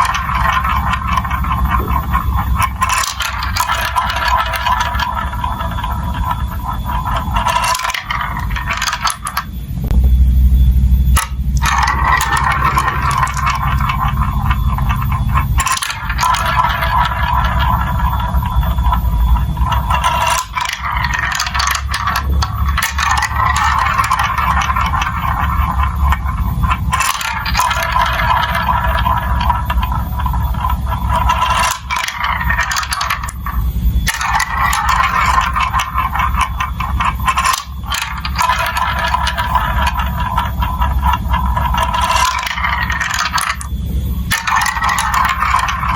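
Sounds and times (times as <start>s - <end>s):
marbles rattling on plastic track: 0.0s - 9.8s, 11.1s - 45.9s.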